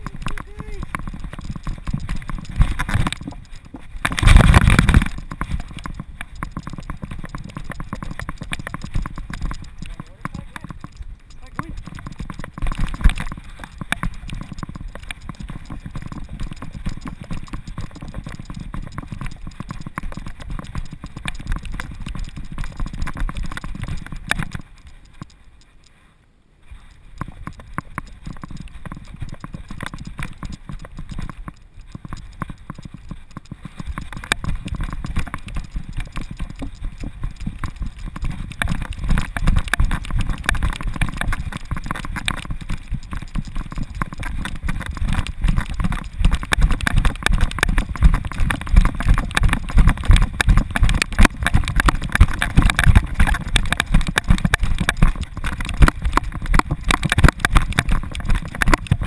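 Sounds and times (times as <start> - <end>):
rhythmic thumping of camera harness: 0.0 - 26.0, 26.6 - 59.0.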